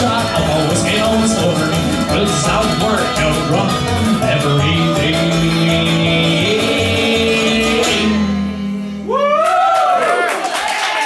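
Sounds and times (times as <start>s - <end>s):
banjo: 0.0s - 8.9s
acoustic guitar strumming: 0.0s - 9.1s
upright bass note: 0.0s - 9.1s.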